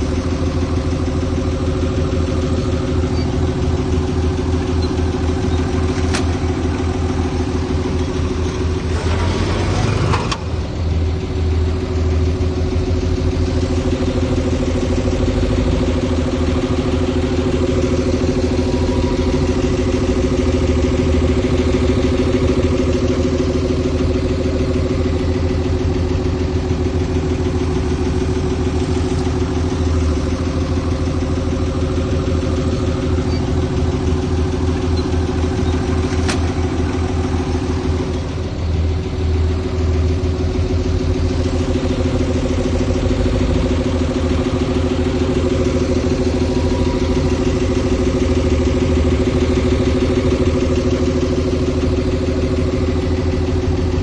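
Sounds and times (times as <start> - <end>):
heavy diesel engine throbbing: 0.0 - 54.0.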